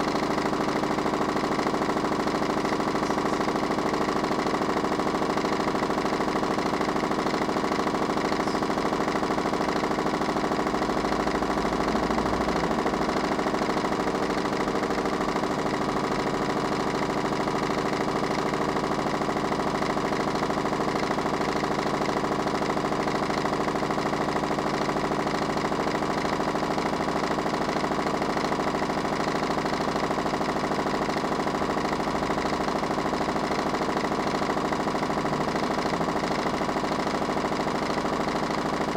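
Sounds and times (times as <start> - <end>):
washing machine motor humming: 0.0 - 38.9.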